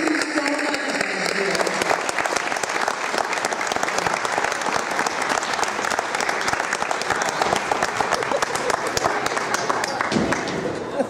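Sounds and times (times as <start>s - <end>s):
crowd clapping: 0.0s - 11.0s.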